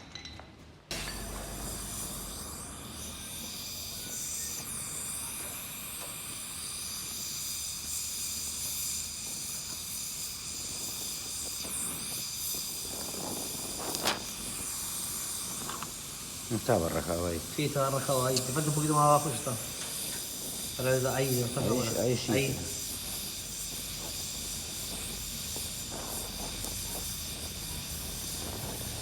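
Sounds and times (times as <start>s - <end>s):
welding torch flame hissing: 0.9s - 29.0s.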